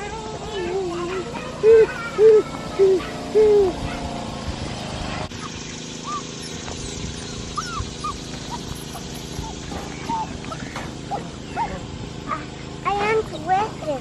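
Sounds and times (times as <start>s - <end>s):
puppy whining: 0.0s - 4.1s, 5.3s - 12.5s.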